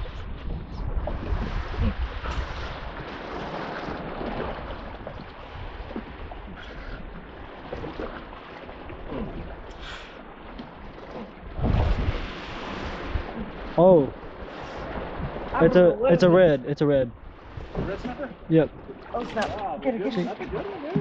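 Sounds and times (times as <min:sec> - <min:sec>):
wind buffeting microphone: 0:00.0 - 0:09.8, 0:10.9 - 0:21.0
open sea noise: 0:00.0 - 0:21.0.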